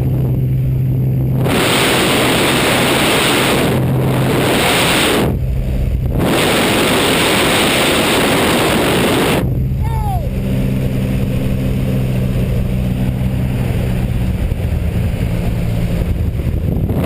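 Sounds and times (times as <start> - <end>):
airplane engine drone: 0.0 - 17.0
rushing wind on microphone: 0.0 - 17.0.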